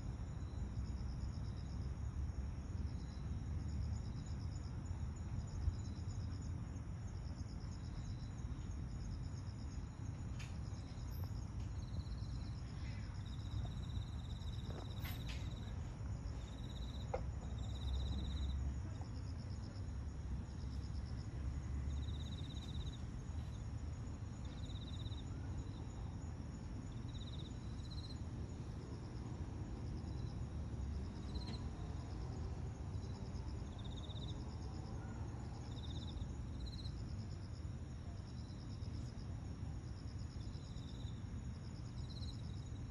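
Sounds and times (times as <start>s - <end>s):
insect chirps: 0.0s - 42.9s
insect fast trill: 0.0s - 42.9s
low steady rumble: 0.0s - 42.9s.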